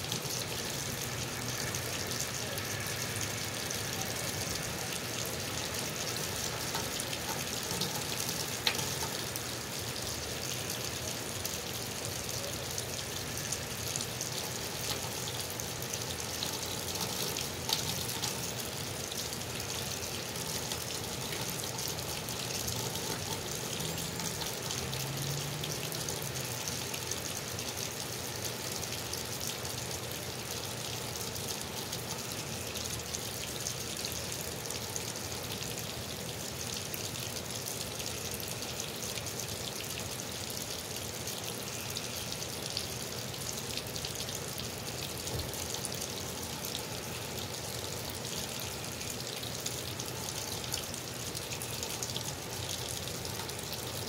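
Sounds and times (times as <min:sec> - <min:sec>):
steady rain: 0:00.0 - 0:54.0
water gushing from a spout: 0:00.0 - 0:54.0.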